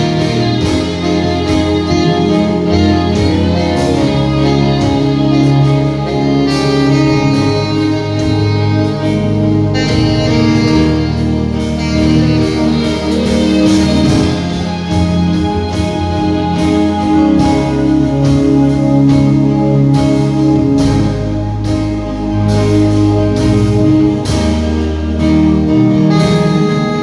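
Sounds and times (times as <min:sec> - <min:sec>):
guitar: 0:00.0 - 0:27.0
keyboard: 0:00.0 - 0:27.0
saxophone melody: 0:00.0 - 0:27.0
steady drum beat: 0:00.0 - 0:27.0.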